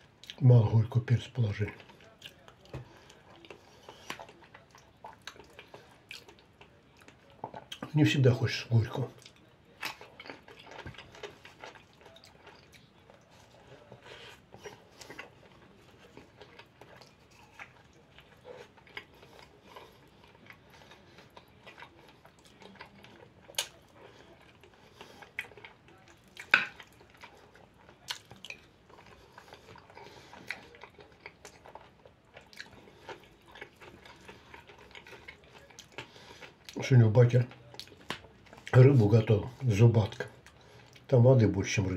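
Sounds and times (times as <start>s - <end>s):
man chewing and biting: 1.6s - 7.9s, 9.1s - 36.8s.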